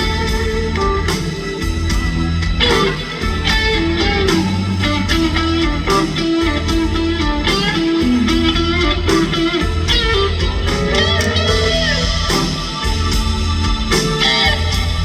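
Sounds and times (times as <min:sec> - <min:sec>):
bass guitar: 0:00.0 - 0:15.0
drums: 0:00.0 - 0:15.0
electric guitar with bending notes: 0:00.0 - 0:15.0.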